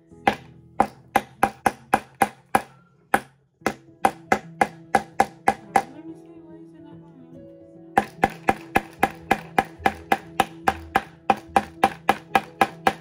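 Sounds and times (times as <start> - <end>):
hammer tapping with ringing tone: 0.2 - 6.0, 8.0 - 13.0.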